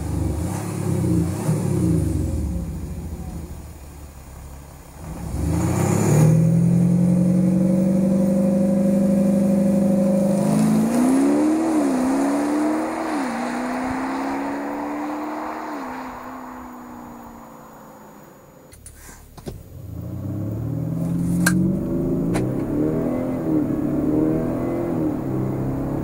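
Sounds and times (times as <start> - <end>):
diesel engine revving: 0.0 - 18.6, 19.6 - 26.0
car accelerating away: 0.0 - 18.8, 19.5 - 26.0.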